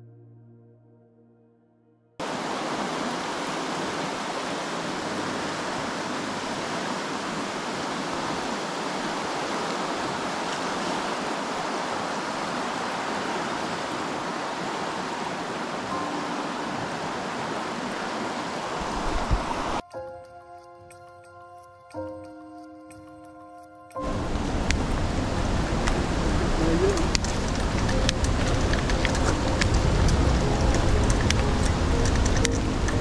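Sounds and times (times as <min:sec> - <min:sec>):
flooded river rushing: 0:02.2 - 0:19.8, 0:24.0 - 0:33.0.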